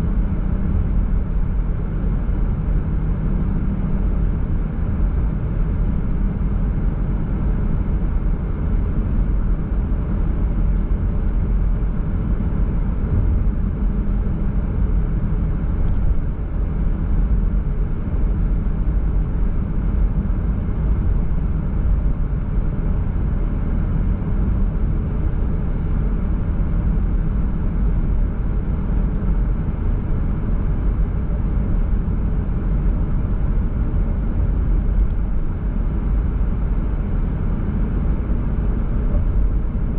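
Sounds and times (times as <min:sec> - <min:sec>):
car engine noise: 0:00.0 - 0:39.9.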